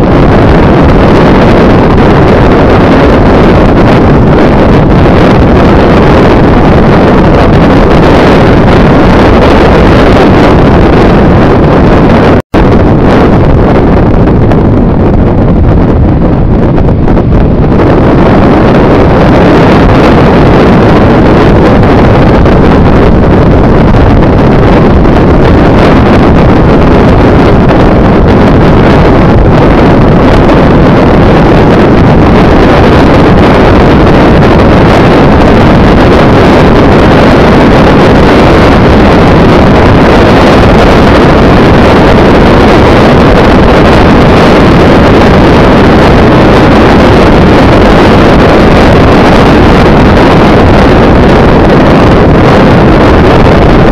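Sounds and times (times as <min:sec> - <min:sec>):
vehicle running noise: 0:00.0 - 0:53.9
wind rush on microphone: 0:00.0 - 0:53.9.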